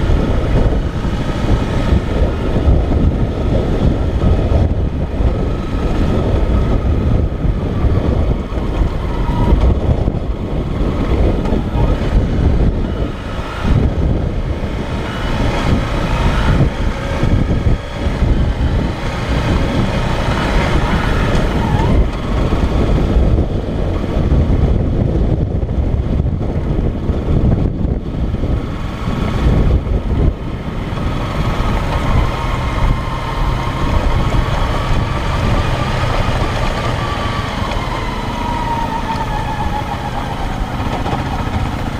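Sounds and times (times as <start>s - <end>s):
motorcycle running: 0.0s - 41.9s
wind buffeting microphone: 0.0s - 41.9s.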